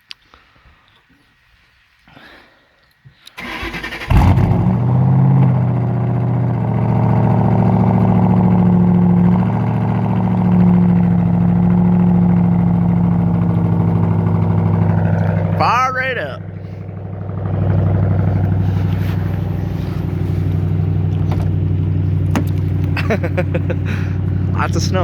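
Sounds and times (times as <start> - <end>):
car engine starting and idling: 3.4 - 25.0.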